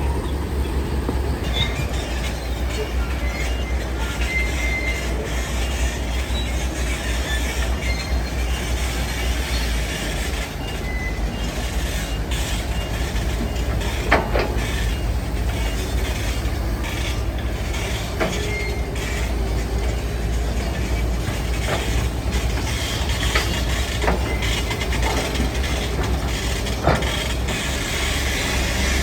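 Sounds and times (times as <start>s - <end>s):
diesel machinery rumbling: 0.0s - 29.0s
high metallic squeaks: 0.0s - 29.0s.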